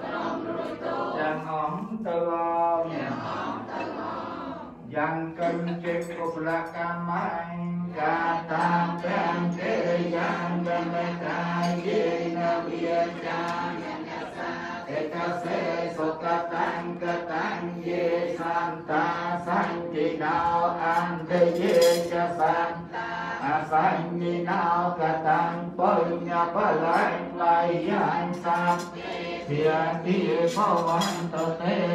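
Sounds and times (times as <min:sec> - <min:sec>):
group chanting a prayer: 0:00.0 - 0:31.9.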